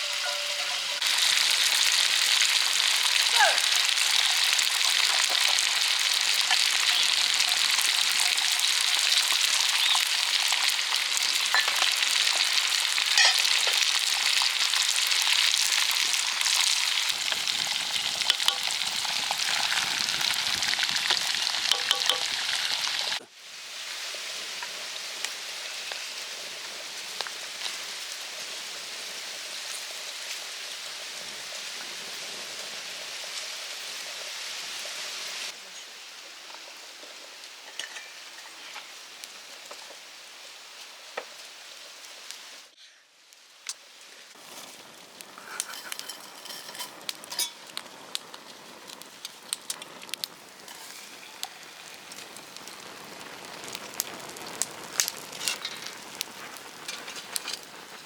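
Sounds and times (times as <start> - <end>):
food sizzling in oil: 0.0 - 42.8, 43.4 - 58.0.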